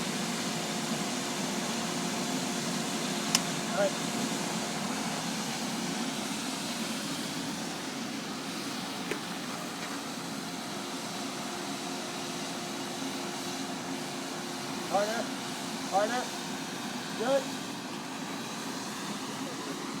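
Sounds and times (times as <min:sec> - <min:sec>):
furnace whirring drone: 0:00.0 - 0:20.0.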